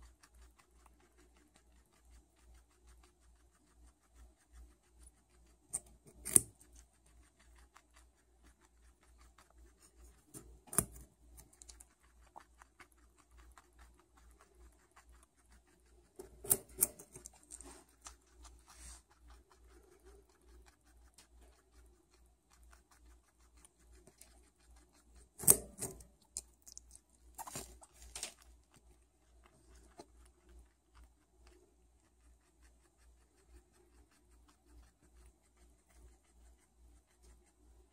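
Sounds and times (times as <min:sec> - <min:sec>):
crackly chewing: 0:00.0 - 0:37.9.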